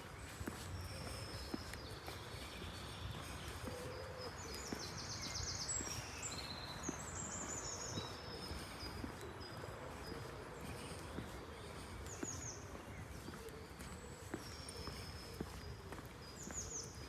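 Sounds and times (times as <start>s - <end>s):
faint footsteps: 0.0s - 17.0s
small birds chirping and trilling: 0.0s - 17.0s.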